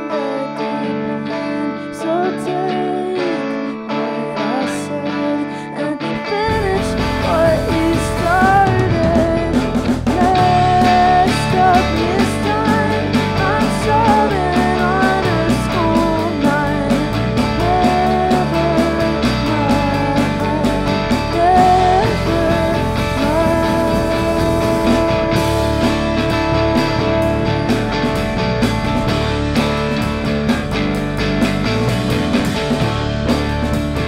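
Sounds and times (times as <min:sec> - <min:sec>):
woman singing: 0:00.0 - 0:28.3
rock band playing live: 0:00.0 - 0:34.0.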